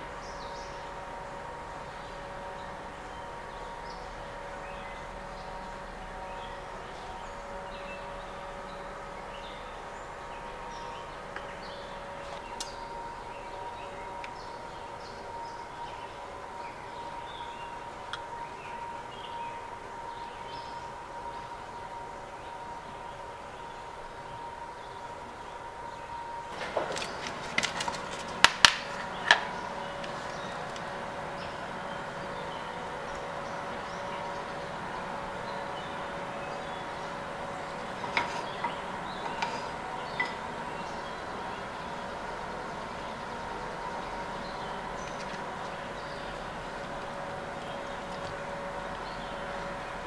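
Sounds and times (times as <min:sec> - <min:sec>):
small birds chirping: 0:00.0 - 0:50.0
steady background hum: 0:00.0 - 0:50.0.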